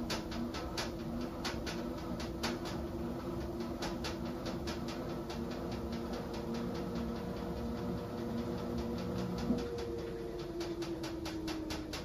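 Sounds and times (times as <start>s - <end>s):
washing machine motor whine: 0.0s - 12.0s.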